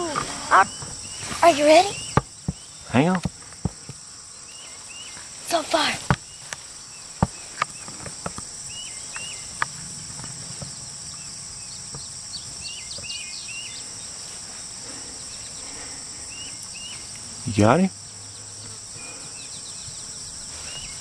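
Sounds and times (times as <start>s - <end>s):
bird chirping: 0.0s - 21.0s
insects droning: 0.0s - 21.0s.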